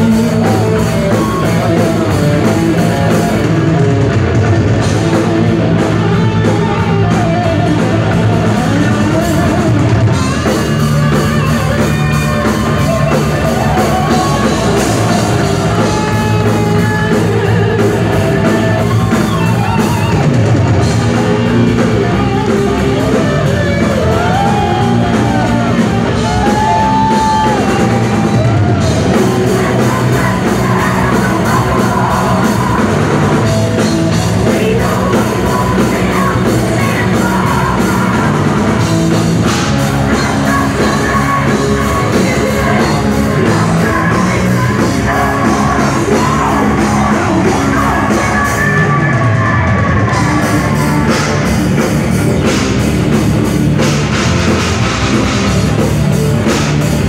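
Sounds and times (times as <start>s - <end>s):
distorted electric guitars: 0.0s - 57.0s
drum kit: 0.0s - 57.0s
person singing: 6.2s - 51.9s.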